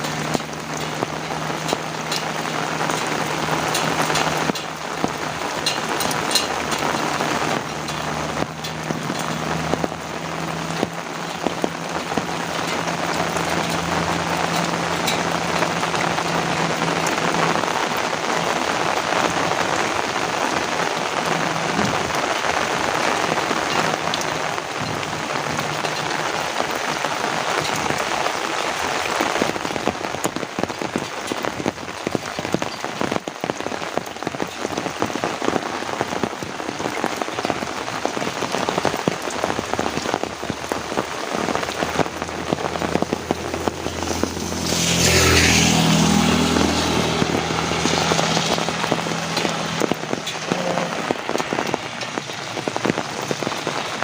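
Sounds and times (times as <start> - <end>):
heavy rain pouring: 0.0 - 54.0
sharp raindrop impacts: 0.0 - 54.0.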